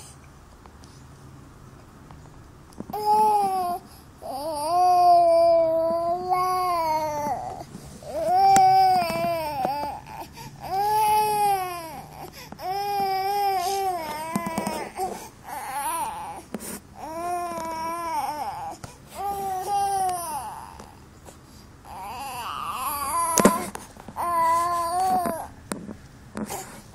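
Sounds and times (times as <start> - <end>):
infant crying: 3.0 - 21.0, 21.8 - 25.5.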